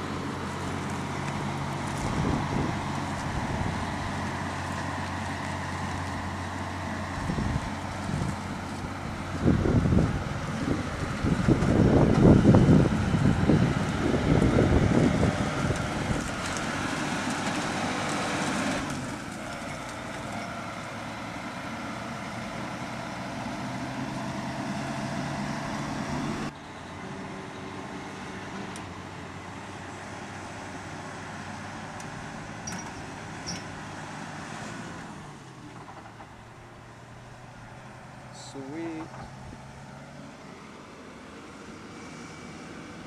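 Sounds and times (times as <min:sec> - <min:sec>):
heavy diesel engine under load: 0:00.0 - 0:43.0.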